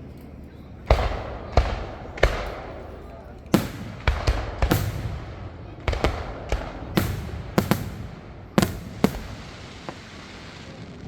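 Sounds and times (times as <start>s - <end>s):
fireworks booming: 0.9s - 11.0s.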